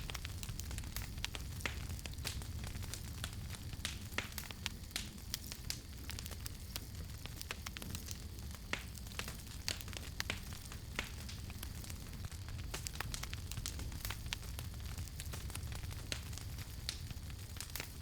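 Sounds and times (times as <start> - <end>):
burning wood popping and snapping: 0.0 - 18.0
flames rumbling and hissing: 0.0 - 18.0.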